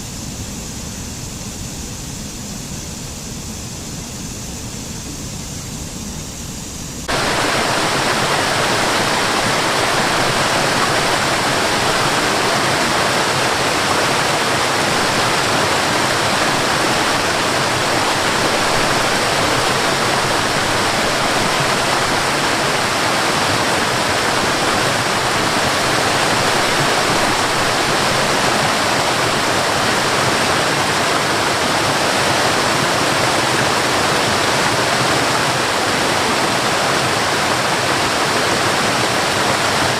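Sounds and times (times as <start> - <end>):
waterfall roaring: 7.0 - 39.9.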